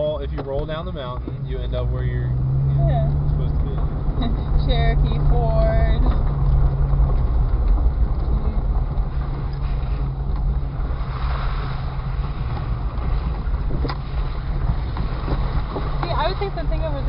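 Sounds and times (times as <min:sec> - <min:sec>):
car engine running: 0:00.0 - 0:17.0
tyre and trail noise: 0:00.0 - 0:17.0.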